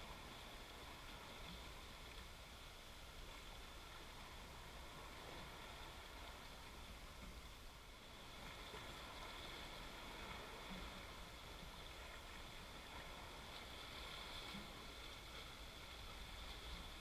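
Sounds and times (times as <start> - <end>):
calm sea washing against rocks: 0.0 - 17.0.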